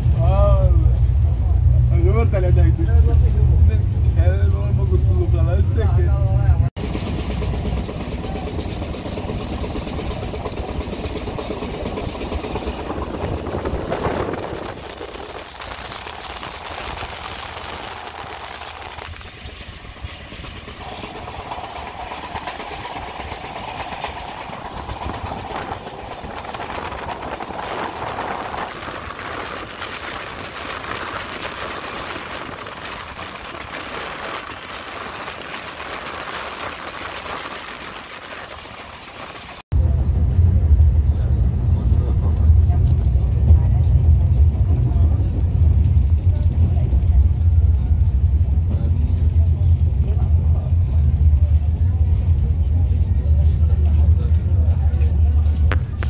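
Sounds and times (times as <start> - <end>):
train rolling on rails: 0.0 - 56.0.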